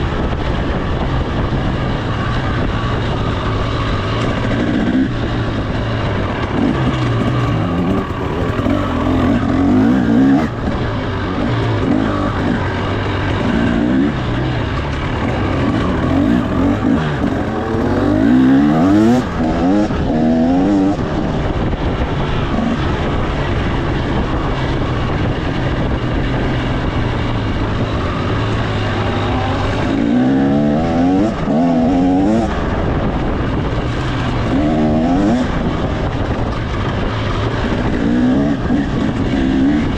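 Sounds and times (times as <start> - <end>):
dirt bike engine accelerating: 0.0 - 39.9.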